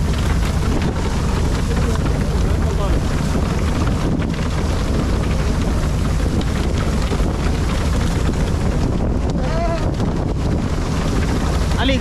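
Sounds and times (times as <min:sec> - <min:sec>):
fishing boat engine running: 0:00.0 - 0:12.0
wind buffeting microphone: 0:00.0 - 0:12.0.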